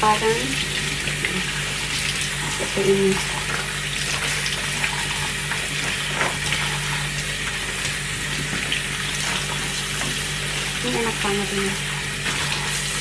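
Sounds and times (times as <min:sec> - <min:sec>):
leaves rinsed by hand splashing: 0:00.0 - 0:13.0
tap water running into strainer: 0:00.0 - 0:13.0.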